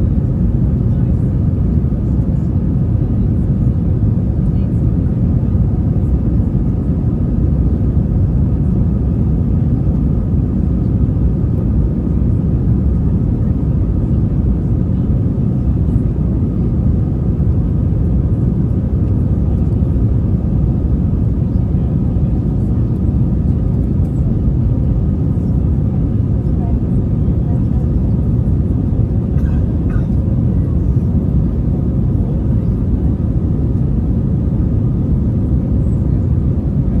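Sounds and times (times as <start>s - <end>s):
jet engine and airflow rumble: 0.0s - 37.0s.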